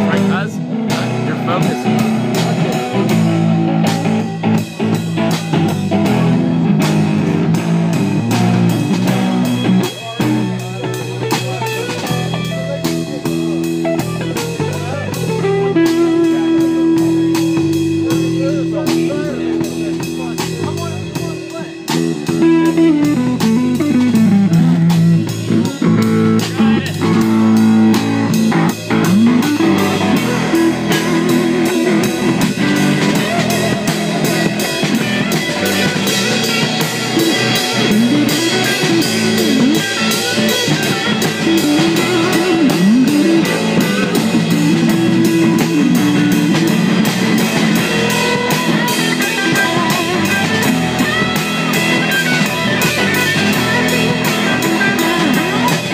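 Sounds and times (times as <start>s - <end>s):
bass: 0.0s - 55.9s
drums: 0.0s - 55.9s
guitar lines with bends: 0.0s - 55.9s.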